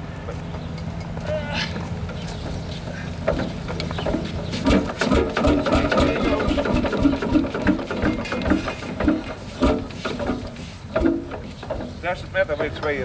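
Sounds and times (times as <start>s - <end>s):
tractor engine running: 0.0s - 13.0s
slow uneven engine knocks: 0.2s - 13.0s.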